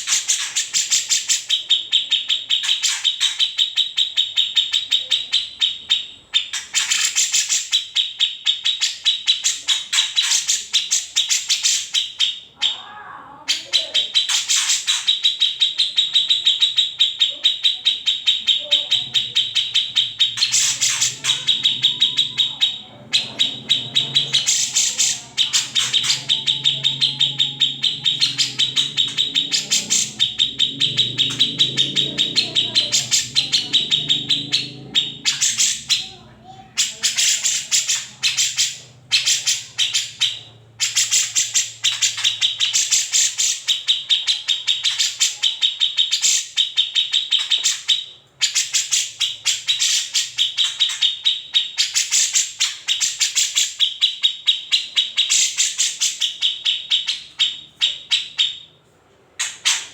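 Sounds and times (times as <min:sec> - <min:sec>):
bird harsh chattering call: 0:00.0 - 0:58.7, 0:59.4 - 0:59.9.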